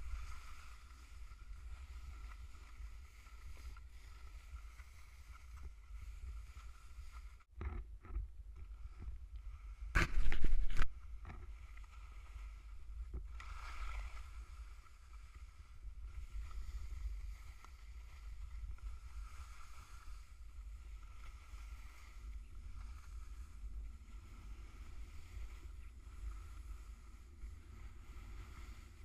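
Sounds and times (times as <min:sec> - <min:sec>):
skis hissing and scraping on snow: 0:00.0 - 0:07.5, 0:11.5 - 0:29.0
wind rumbling on microphone: 0:00.0 - 0:29.0.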